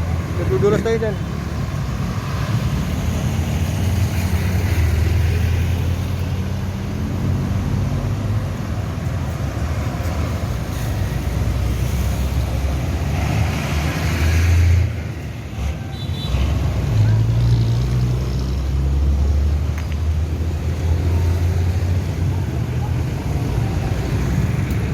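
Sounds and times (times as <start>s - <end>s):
road and traffic noise: 0.0s - 24.9s.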